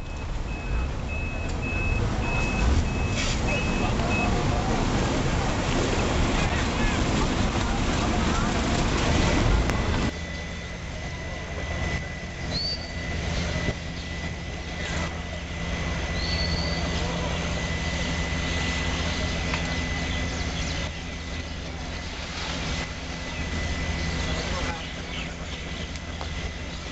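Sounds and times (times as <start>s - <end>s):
engine droning: 0.0s - 26.9s
loud rush of noise: 0.3s - 26.9s.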